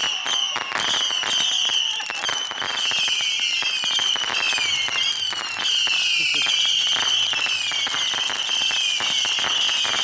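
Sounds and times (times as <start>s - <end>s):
firework crackling pops: 0.0s - 10.0s
firework whistling down in pitch: 0.0s - 10.0s.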